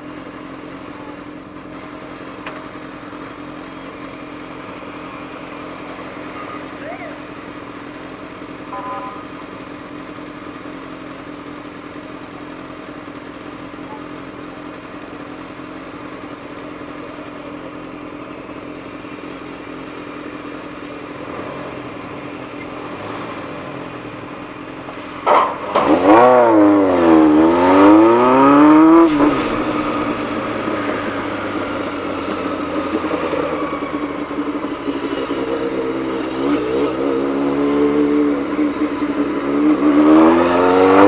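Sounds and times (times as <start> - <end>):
motorcycle engine running and revving: 0.0 - 41.0.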